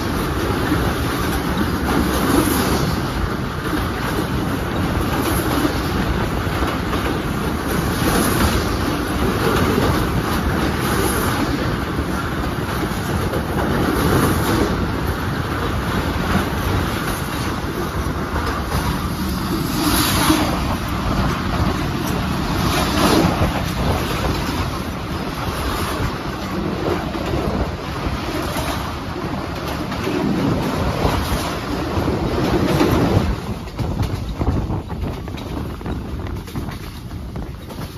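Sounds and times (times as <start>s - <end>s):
train wheels clattering on bridge: 0.0s - 37.9s.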